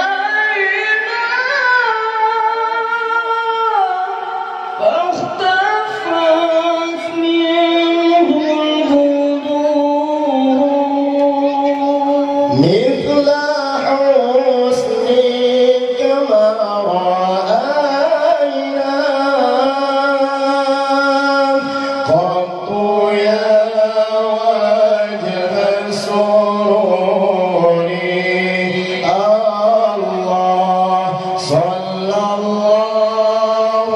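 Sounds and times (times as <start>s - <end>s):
two men singing praise songs: 0.0s - 33.9s.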